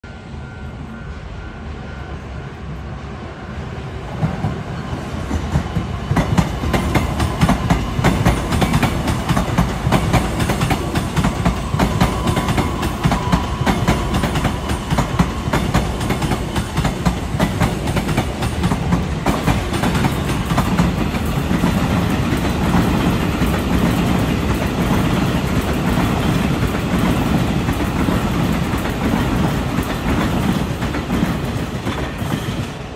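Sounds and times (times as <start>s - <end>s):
train wheels clattering over rail joints: 5.3s - 32.8s.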